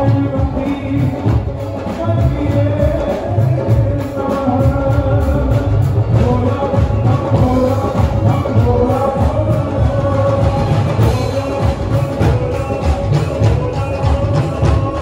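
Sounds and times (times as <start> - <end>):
live band with drums: 0.0 - 15.0
man singing: 0.0 - 15.0.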